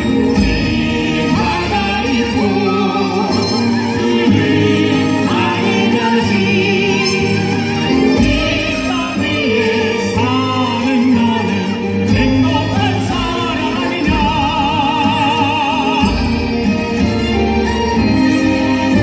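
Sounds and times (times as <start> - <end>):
recorded accompaniment music: 0.0 - 19.0
vocal trio singing: 0.1 - 16.8.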